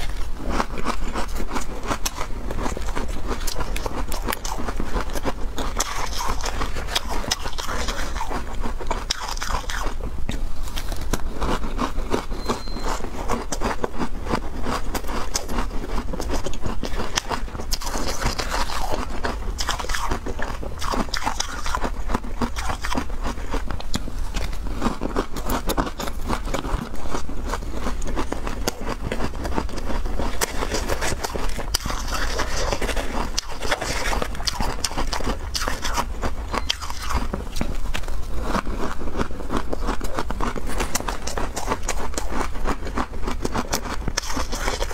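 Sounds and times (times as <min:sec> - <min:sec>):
chewing crunchy ice: 0:00.0 - 0:44.9.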